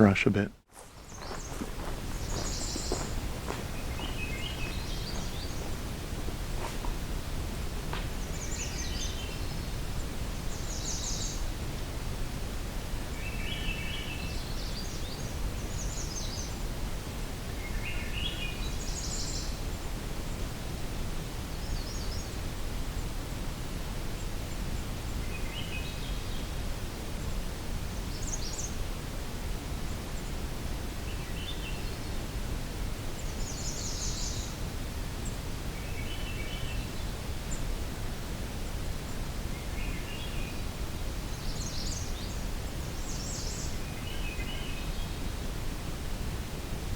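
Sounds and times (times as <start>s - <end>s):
low outdoor rumble: 1.4s - 46.9s.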